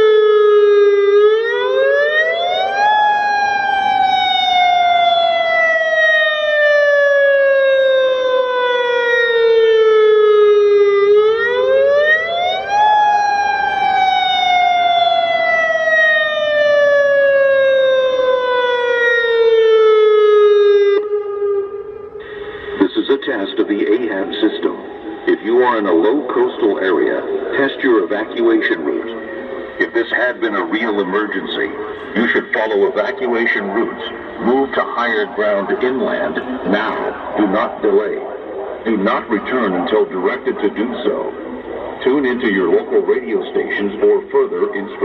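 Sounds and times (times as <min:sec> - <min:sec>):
warning siren wailing: 0:00.0 - 0:45.0.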